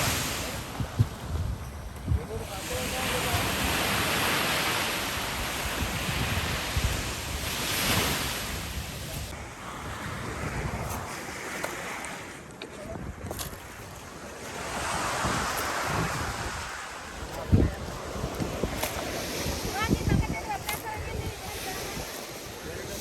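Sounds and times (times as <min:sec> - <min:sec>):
sea waves washing onto shore: 0:00.0 - 0:23.0
wind rumbling on microphone: 0:00.0 - 0:23.0.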